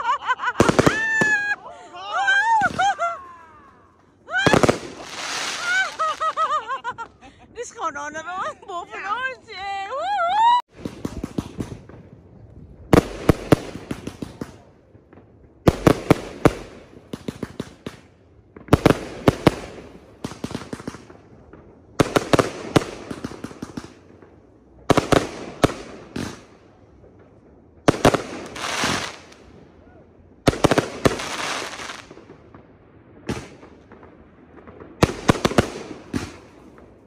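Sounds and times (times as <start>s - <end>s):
fireworks bangs: 0.0s - 9.4s, 10.4s - 37.0s.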